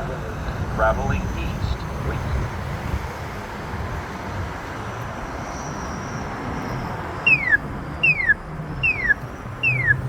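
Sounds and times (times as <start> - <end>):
pedestrian signal chirping: 0.0 - 2.4, 4.2 - 10.0
steady traffic noise: 0.0 - 10.0.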